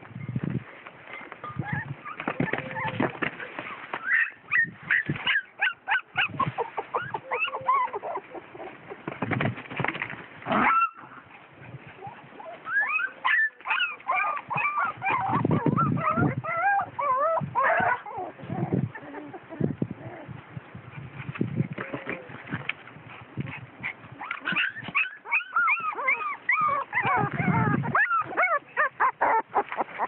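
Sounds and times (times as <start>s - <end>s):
puppies whimpering and yelping: 1.1s - 9.2s, 10.5s - 22.5s, 23.1s - 30.0s.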